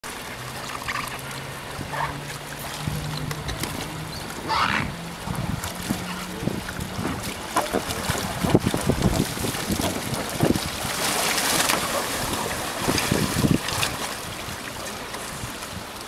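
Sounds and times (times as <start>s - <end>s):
water pouring off raft: 0.0s - 16.0s
water splashing and sloshing: 0.0s - 16.0s.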